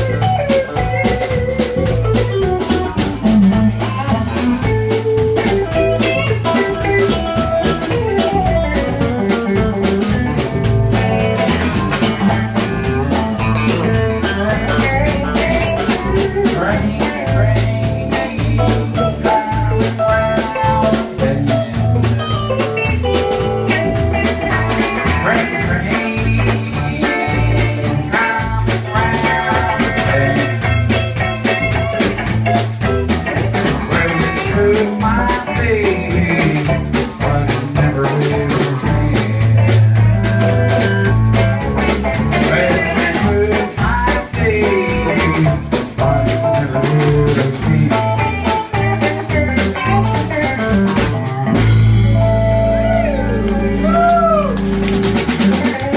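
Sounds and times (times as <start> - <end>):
drum kit beat: 0.0 - 55.9
electric bass: 0.0 - 55.9
electric guitar: 0.0 - 55.9.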